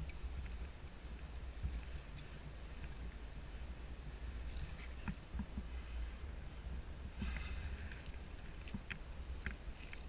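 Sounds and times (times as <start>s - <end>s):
faint hiss: 0.0s - 10.0s
wind buffeting microphone: 0.0s - 10.0s.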